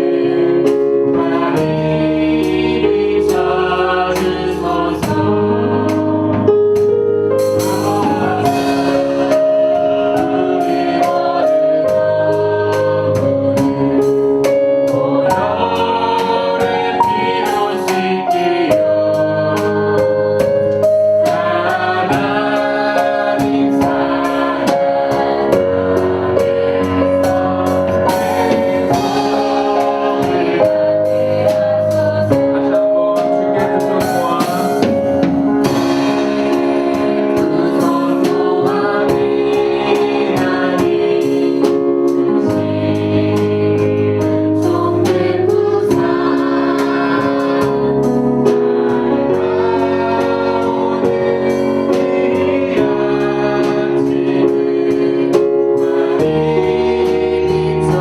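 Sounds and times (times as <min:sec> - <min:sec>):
group singing praise song: 0:00.0 - 0:58.0.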